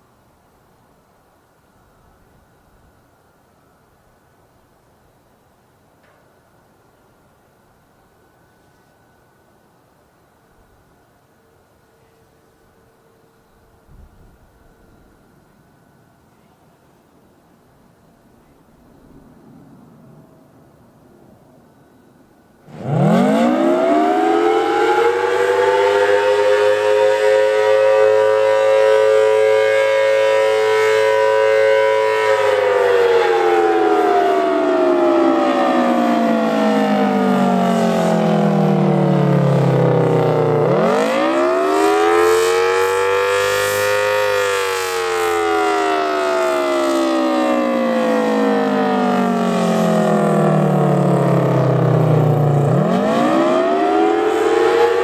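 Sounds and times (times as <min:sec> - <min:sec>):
outdoor warning siren: 0:00.0 - 0:55.0.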